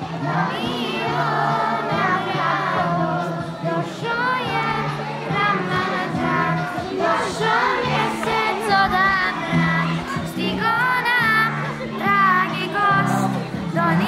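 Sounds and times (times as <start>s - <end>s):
backing track with bass notes: 0.0s - 14.0s
children's choir singing: 0.0s - 14.0s.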